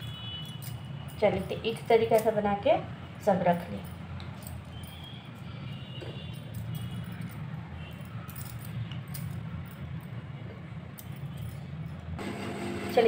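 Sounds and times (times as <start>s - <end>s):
glass bangles jingling: 0.0s - 2.8s, 3.4s - 12.2s.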